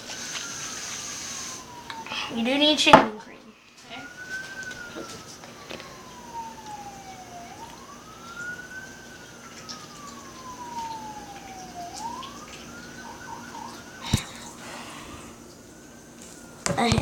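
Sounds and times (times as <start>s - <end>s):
faint siren wailing: 0.0s - 17.0s.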